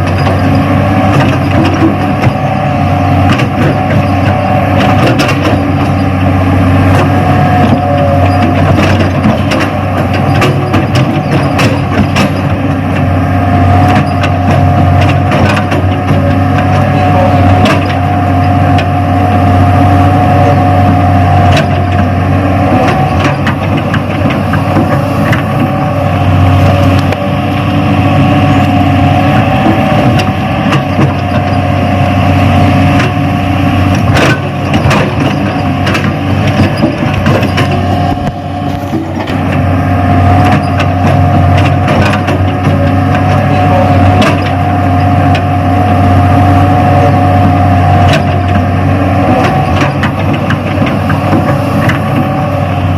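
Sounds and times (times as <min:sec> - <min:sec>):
model excavator motor whine: 0:00.0 - 0:52.9.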